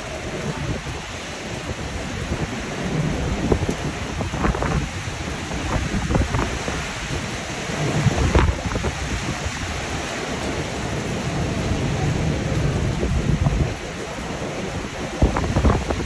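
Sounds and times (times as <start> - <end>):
driving rain: 0.0 - 16.0
hurricane wind: 0.0 - 16.0
wind buffeting microphone: 0.0 - 16.0.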